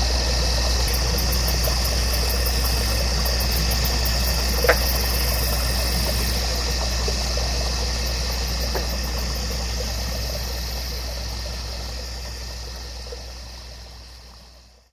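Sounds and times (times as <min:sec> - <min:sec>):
high-pitched hiss: 0:00.0 - 0:14.9
low engine-like hum: 0:00.0 - 0:14.9.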